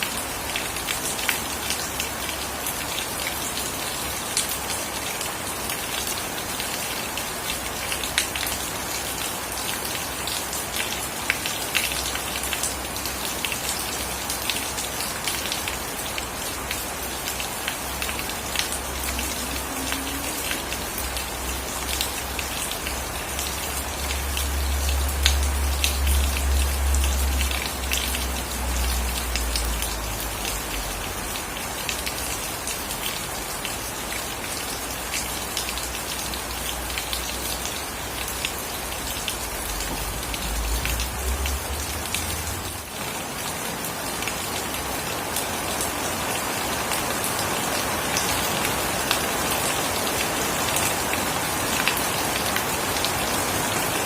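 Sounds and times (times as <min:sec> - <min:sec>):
raindrops striking close by: 0:00.0 - 0:54.0
steady rain falling: 0:00.0 - 0:54.0.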